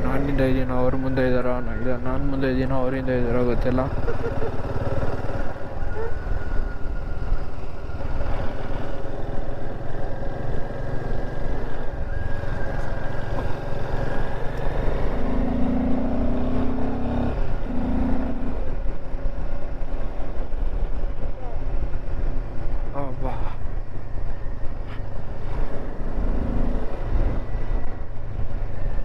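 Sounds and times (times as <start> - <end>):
motorcycle engine rumble: 0.0 - 29.0.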